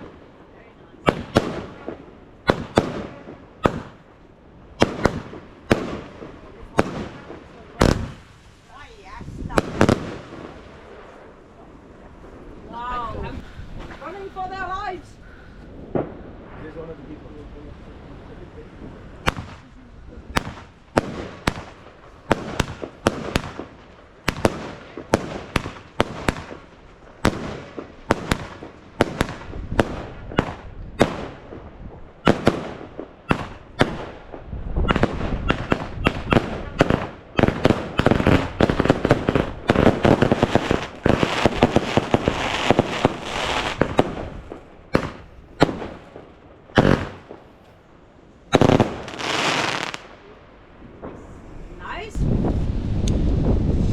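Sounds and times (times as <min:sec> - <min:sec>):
fireworks banging and crackling: 0:00.0 - 0:53.9.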